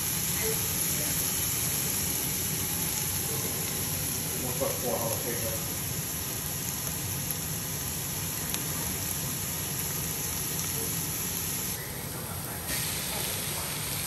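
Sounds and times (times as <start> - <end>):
onions and garlic sizzling in oil: 0.0 - 14.0.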